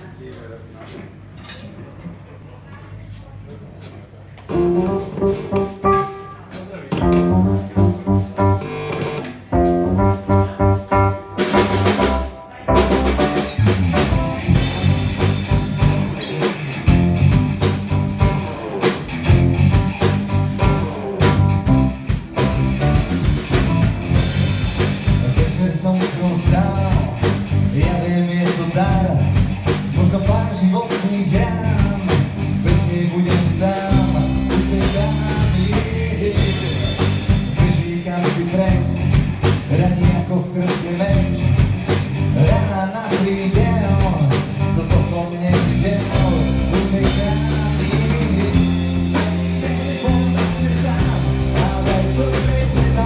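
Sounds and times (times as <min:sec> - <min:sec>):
rock band playing: 0:04.5 - 0:53.0.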